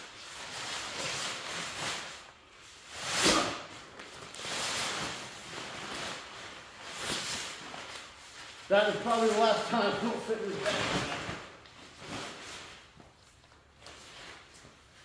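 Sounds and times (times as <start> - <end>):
fabric rustling being stuffed in bag: 0.0 - 15.0.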